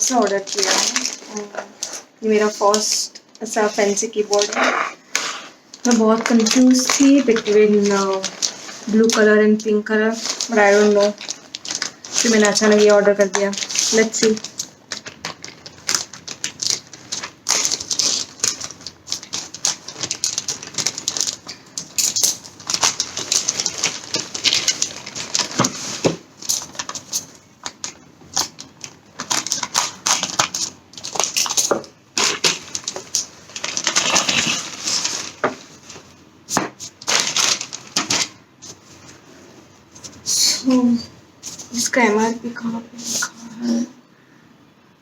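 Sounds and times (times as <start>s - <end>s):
packaging crinkling: 0.0s - 43.8s.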